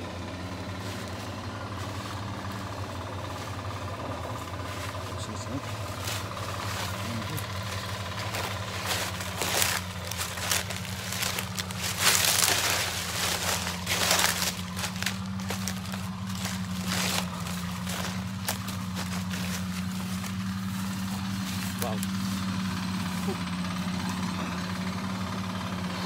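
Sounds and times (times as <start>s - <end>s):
leaves and undergrowth rustling: 0.0s - 26.0s
steady low hum: 0.0s - 26.0s.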